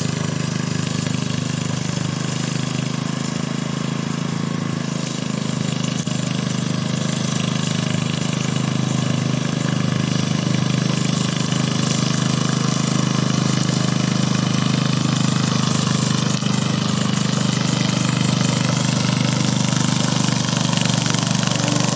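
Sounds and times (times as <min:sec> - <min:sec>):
lawn mower engine running: 0:00.0 - 0:21.9.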